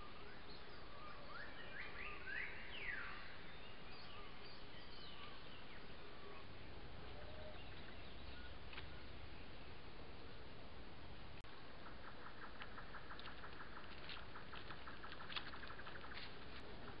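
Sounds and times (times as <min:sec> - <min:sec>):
wild bird calls: 0:00.0 - 0:10.4, 0:11.5 - 0:17.0.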